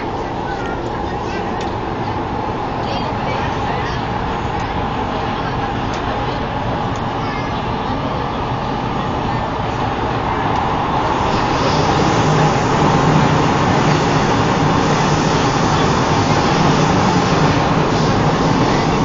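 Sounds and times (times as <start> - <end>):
train running inside carriage: 0.0 - 19.0.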